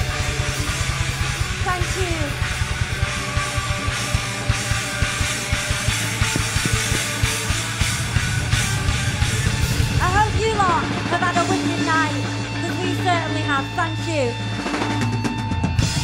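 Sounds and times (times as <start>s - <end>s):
bass guitar: 0.0s - 16.0s
electric guitar: 0.0s - 16.0s
fast drums: 0.0s - 16.0s.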